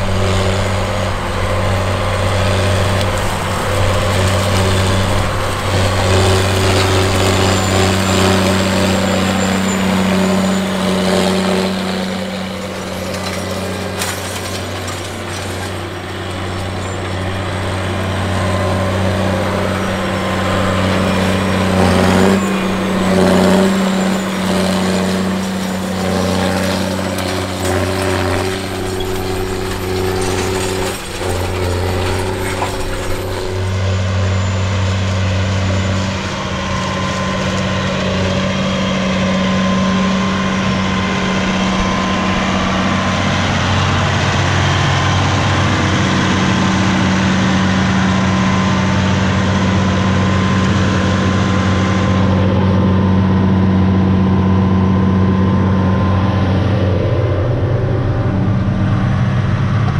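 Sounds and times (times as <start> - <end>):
tractor diesel engine droning: 0.0 - 59.9.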